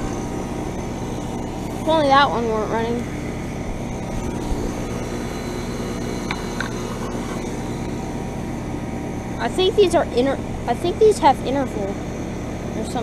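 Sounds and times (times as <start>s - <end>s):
heat pump units humming: 0.0s - 13.0s.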